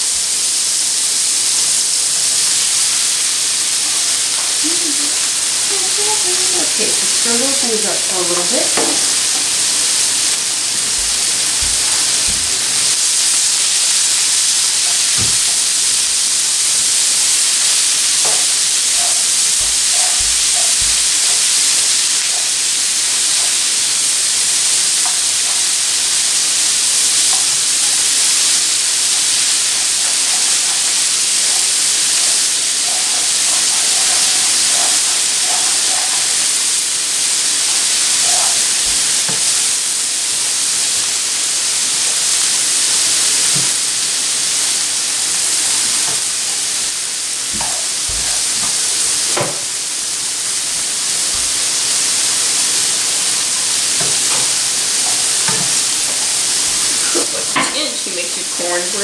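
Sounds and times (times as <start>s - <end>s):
vegetables sizzling in a skillet: 0.0s - 59.0s.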